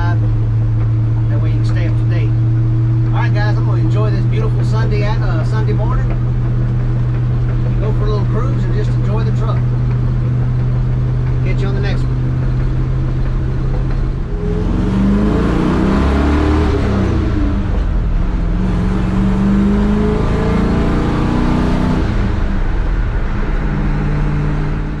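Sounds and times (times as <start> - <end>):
car engine accelerating inside cab: 0.0 - 25.0.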